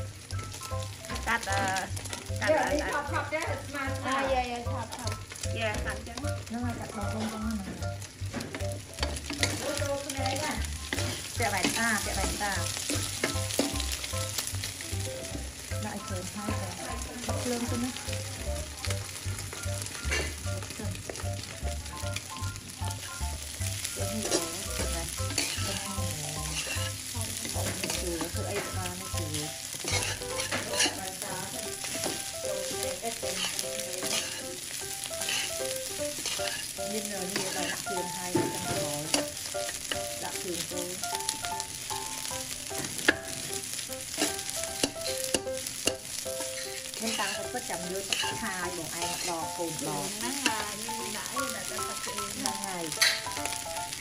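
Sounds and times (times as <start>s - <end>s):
rice sizzling in a wok: 0.0s - 54.0s
utensils scraping and knocking a wok: 0.0s - 54.0s.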